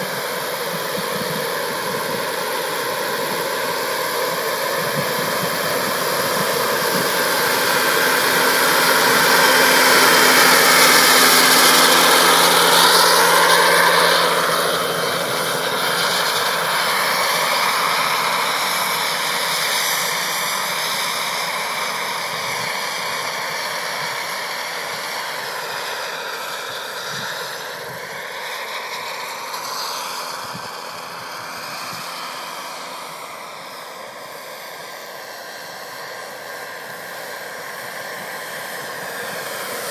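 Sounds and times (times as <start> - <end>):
model helicopter flying: 0.0 - 39.9.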